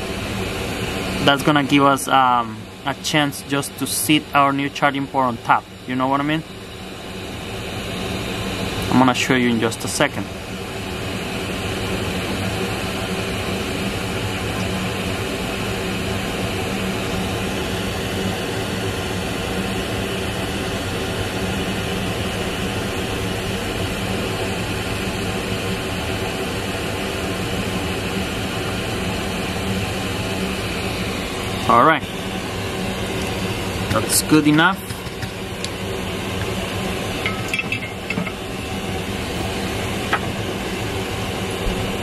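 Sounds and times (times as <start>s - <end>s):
extractor fan running: 0.0s - 42.0s.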